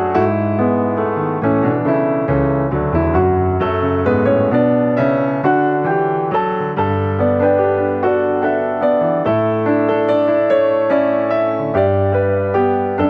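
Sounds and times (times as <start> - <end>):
piano chords with sustained bass: 0.0 - 13.0.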